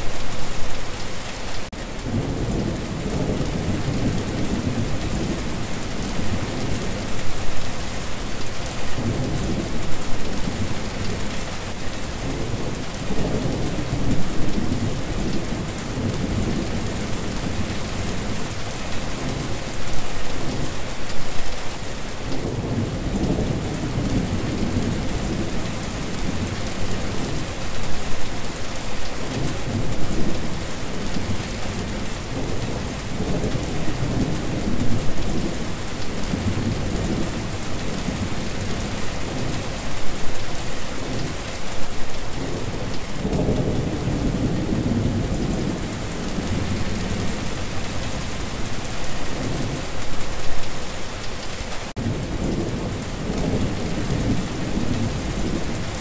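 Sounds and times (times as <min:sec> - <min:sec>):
rain on wet surface: 0:00.0 - 0:56.0.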